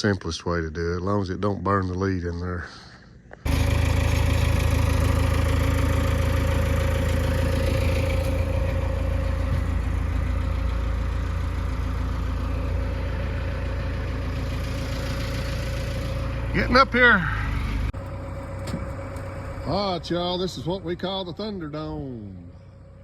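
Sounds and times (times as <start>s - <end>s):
engine idling: 3.3s - 23.0s.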